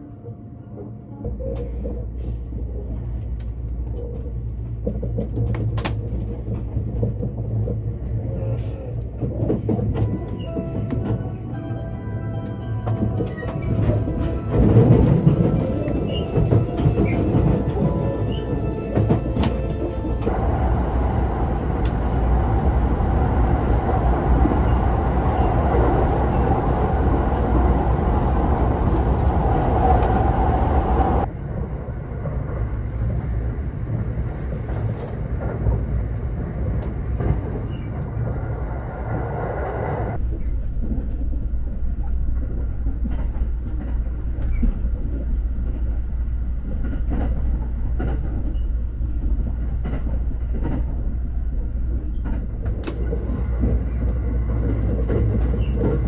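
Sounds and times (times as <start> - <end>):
train carriage running rumble: 0.0 - 56.0.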